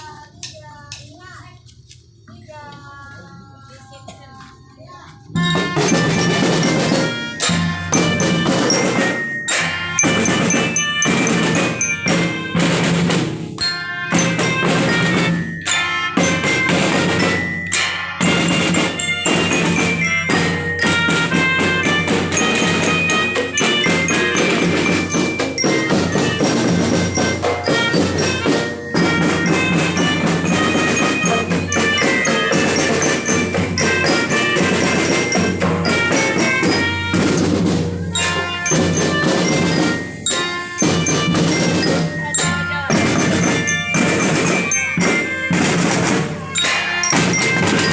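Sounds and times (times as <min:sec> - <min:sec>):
marching drums beating: 0:02.4 - 0:47.9
bell lyre melody: 0:05.4 - 0:47.9.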